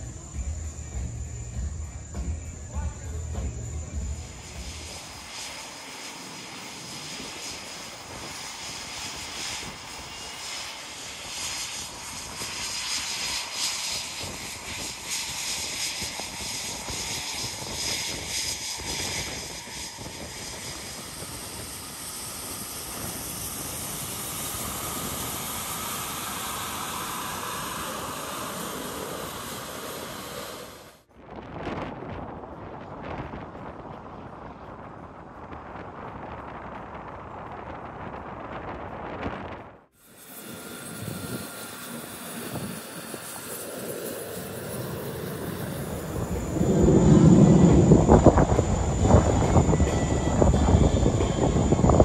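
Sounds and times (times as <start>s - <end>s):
aircraft engine flying past: 0.0s - 52.0s.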